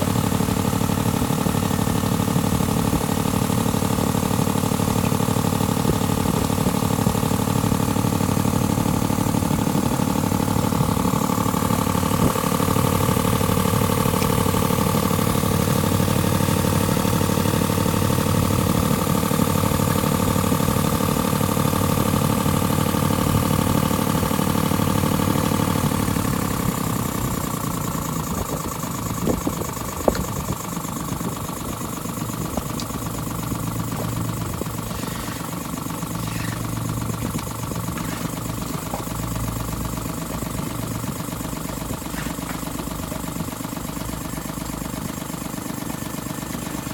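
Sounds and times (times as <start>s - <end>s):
small boat engine running: 0.0s - 46.9s.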